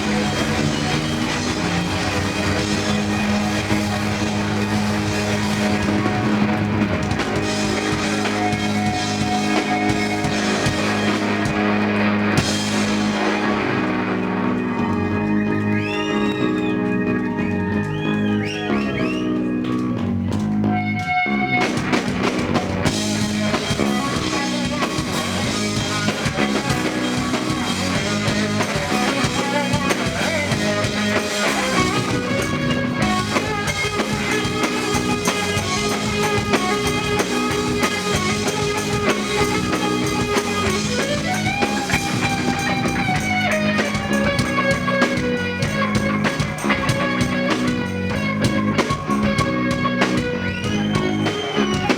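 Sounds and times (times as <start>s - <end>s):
bass guitar: 0.0s - 51.9s
drum kit: 0.0s - 51.9s
electric guitar: 0.0s - 51.9s
keyboard: 0.0s - 51.9s.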